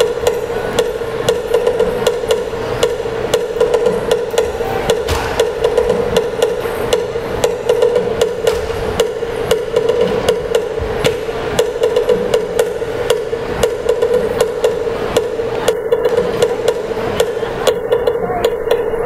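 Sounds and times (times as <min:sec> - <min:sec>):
sharp even knocks: 0:00.0 - 0:18.9
steady ringing tone: 0:00.0 - 0:19.0.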